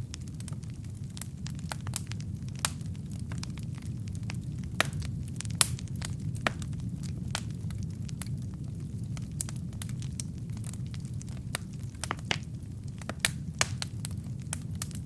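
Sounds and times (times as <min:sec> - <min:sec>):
logs crackling and popping: 0:00.0 - 0:15.0
wood fire rumbling: 0:00.0 - 0:15.0.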